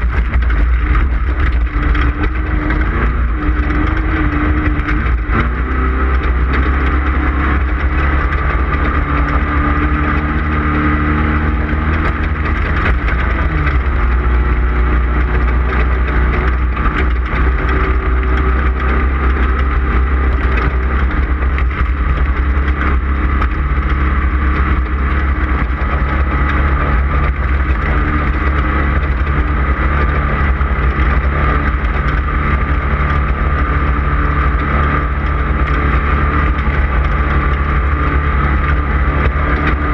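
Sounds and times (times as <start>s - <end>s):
race car engine running hard: 0.0s - 39.9s
vehicle rattles and knocks: 0.0s - 39.9s.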